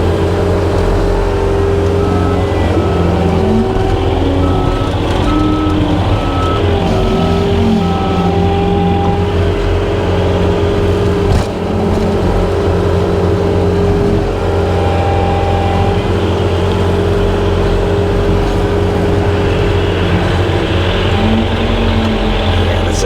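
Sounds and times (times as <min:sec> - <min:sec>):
brush cutter attachment whining: 0:00.0 - 0:23.0
skid steer engine running: 0:00.0 - 0:23.0.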